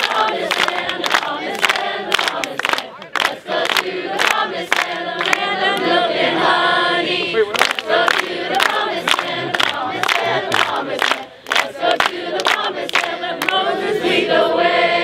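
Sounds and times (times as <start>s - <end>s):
hands clapping in time: 0.0s - 5.9s, 7.5s - 13.6s
group singing: 0.0s - 15.0s.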